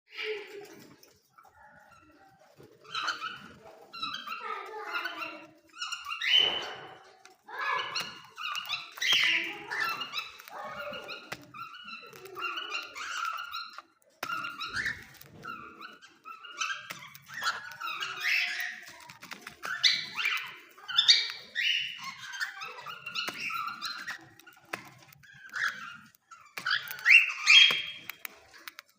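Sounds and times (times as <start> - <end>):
parrots squawking: 0.1 - 28.9.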